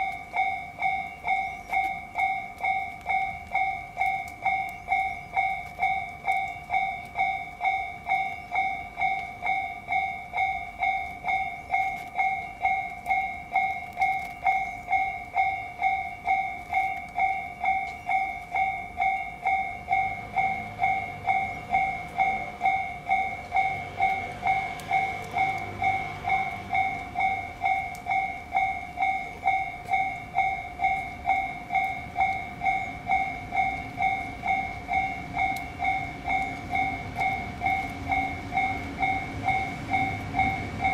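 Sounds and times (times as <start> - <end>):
level-crossing alarm two-tone ding: 0.0 - 40.9
train rumbling past: 0.0 - 40.9.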